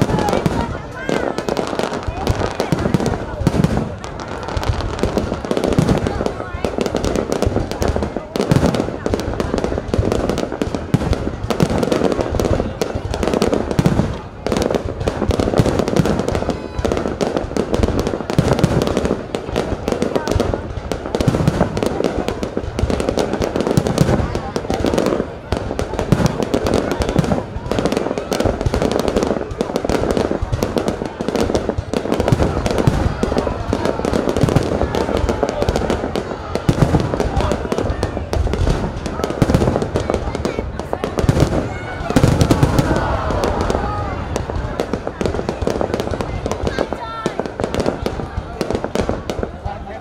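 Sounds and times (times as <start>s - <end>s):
deep fireworks booms: 0.0s - 50.0s
fireworks bangs and crackles: 0.0s - 50.0s.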